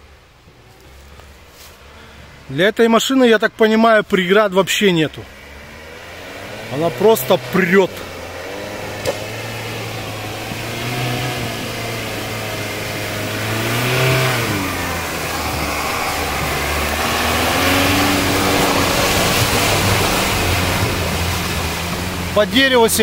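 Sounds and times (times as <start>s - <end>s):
off-road vehicle engine under load: 0.0s - 23.0s.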